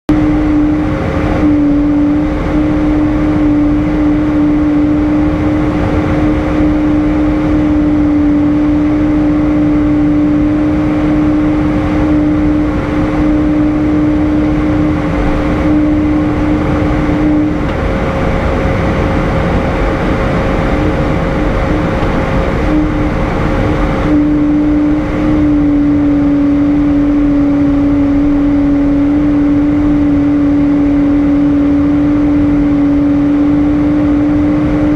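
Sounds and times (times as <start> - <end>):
aircraft cabin engine rush: 0.1 - 34.9
humming tone: 0.1 - 34.9.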